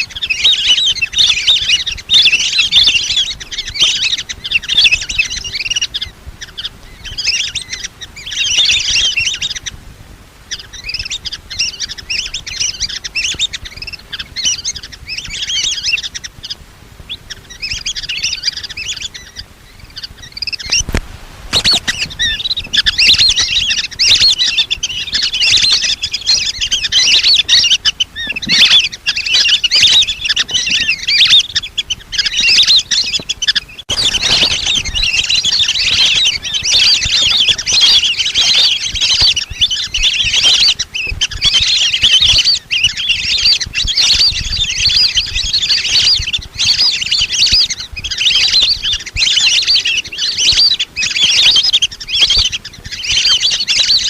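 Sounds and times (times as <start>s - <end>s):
duck flock chatter: 0.0s - 9.8s, 10.5s - 54.0s
ducks whistling calls: 0.0s - 54.0s.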